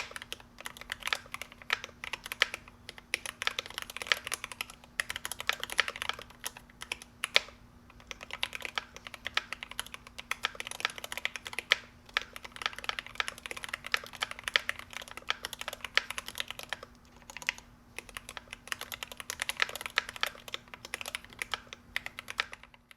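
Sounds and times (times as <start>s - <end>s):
faint steady hum: 0.0s - 22.9s
mechanical keyboard typing: 0.0s - 22.9s.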